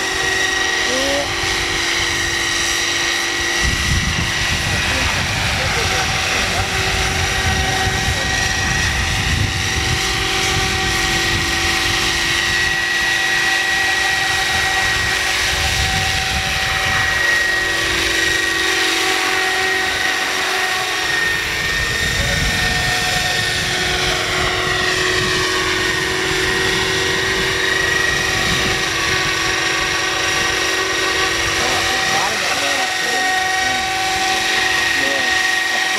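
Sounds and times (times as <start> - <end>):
rc helicopter whine: 0.0 - 35.9.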